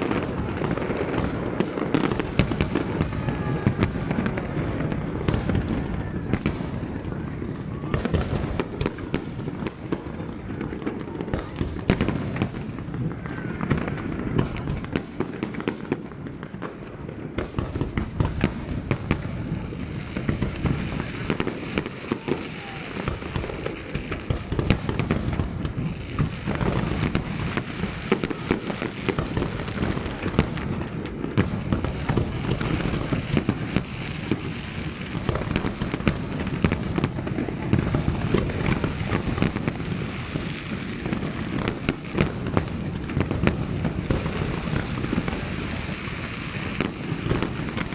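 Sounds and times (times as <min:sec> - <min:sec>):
fireworks bursting: 0:00.0 - 0:47.9.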